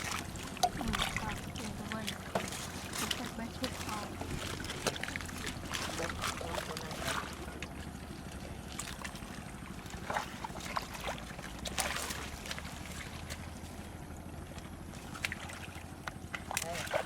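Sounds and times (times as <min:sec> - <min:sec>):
shallow water sloshing and splashing: 0:00.0 - 0:17.0
steady low rumble: 0:00.0 - 0:17.0.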